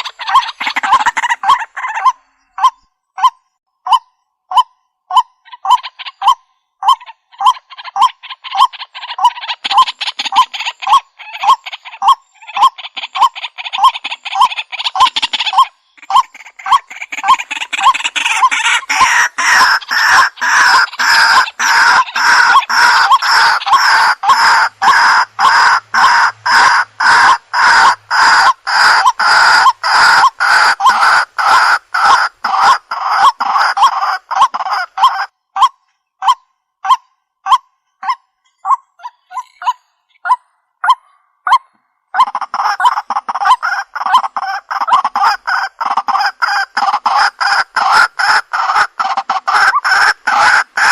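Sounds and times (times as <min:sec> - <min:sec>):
waterhen calling rapidly: 0:00.0 - 0:03.3, 0:03.9 - 0:50.9.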